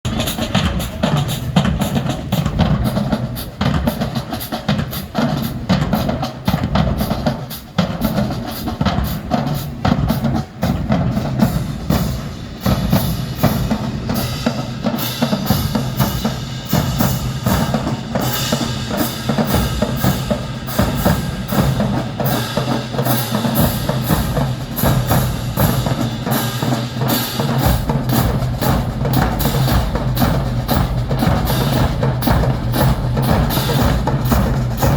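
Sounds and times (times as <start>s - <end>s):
drums beating: 0.0s - 34.9s
marching band playing: 0.0s - 34.9s.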